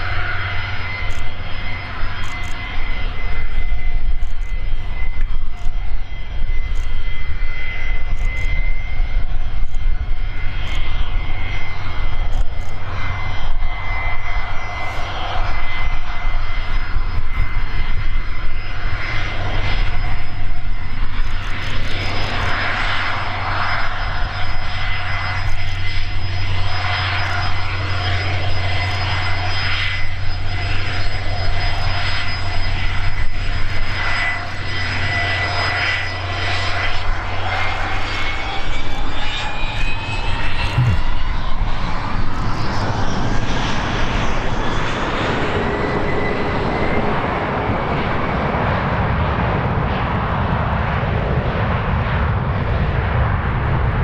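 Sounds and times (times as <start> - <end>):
jet engines whining at taxi power: 0.0 - 54.0.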